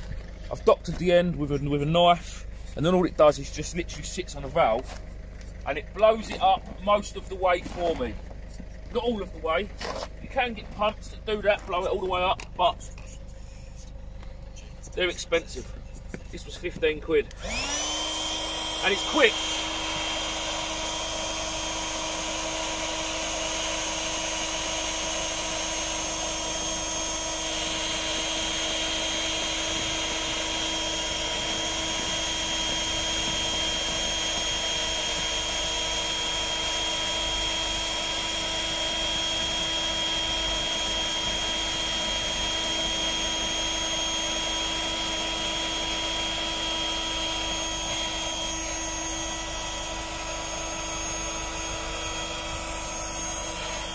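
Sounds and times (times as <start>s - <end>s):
electric air pump whirring: 4.4s - 11.0s, 11.7s - 53.9s.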